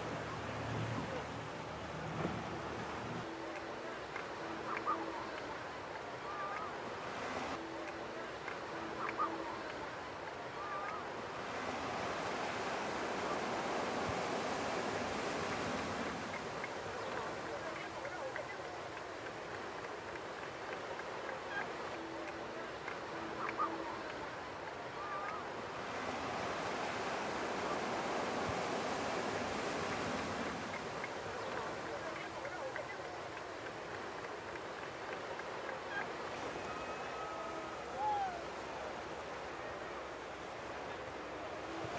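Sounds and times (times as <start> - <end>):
surf washing onto beach: 0.0 - 41.9.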